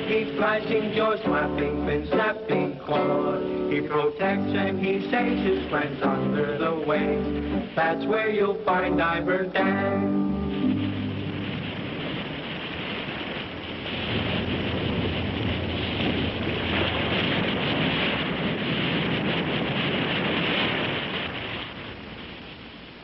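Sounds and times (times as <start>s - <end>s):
ocean waves breaking: 0.0s - 21.8s.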